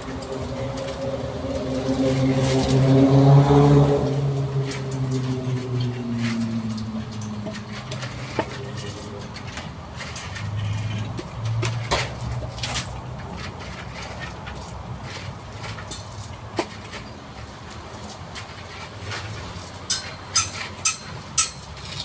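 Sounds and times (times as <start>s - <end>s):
vehicle engine passing by: 0.0s - 19.9s.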